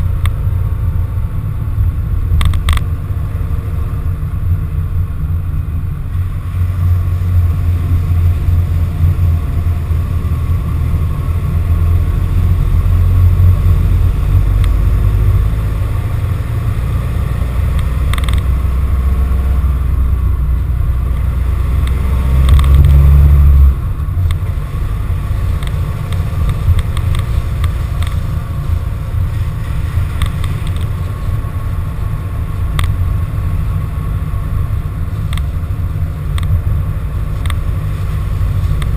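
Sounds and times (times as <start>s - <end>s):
van engine and road rumble: 0.0s - 38.9s.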